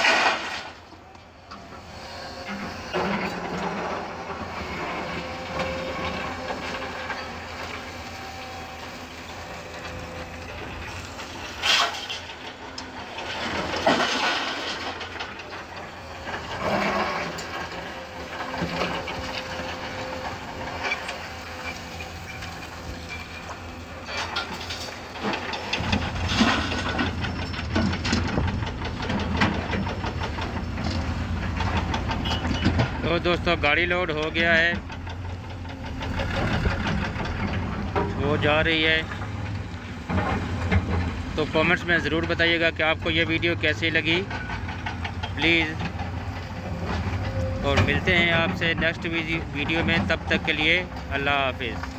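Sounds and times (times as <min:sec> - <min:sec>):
excavator diesel engine running: 0:00.1 - 0:51.9.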